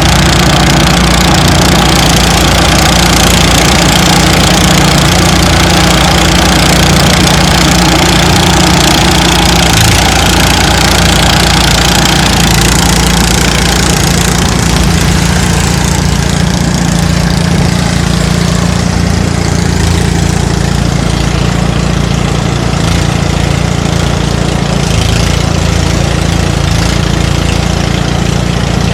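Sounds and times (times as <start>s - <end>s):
engine hum: 0.0s - 28.9s.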